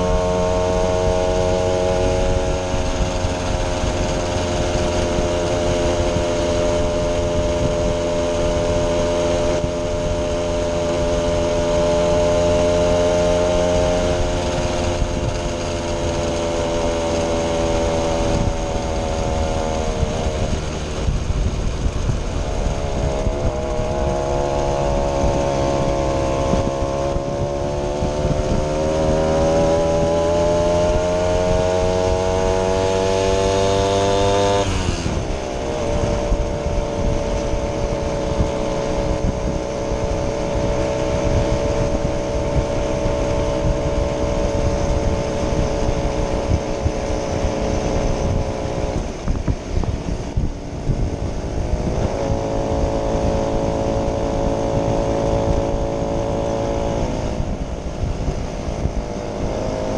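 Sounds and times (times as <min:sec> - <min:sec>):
moped engine buzzing: 0:00.0 - 0:59.9.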